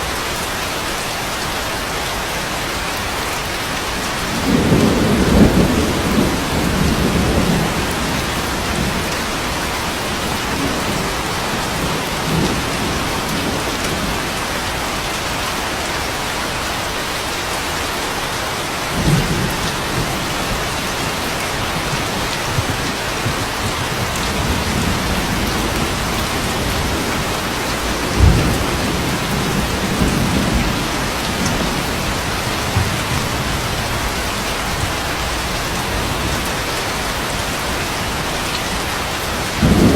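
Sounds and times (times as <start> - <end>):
steady rain: 0.0 - 39.9
thunder rumbling: 3.9 - 14.8, 18.8 - 39.9.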